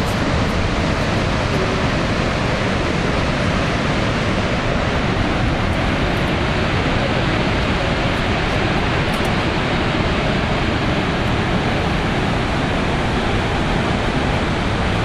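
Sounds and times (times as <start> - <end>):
rush of massive waterfall: 0.0 - 15.0.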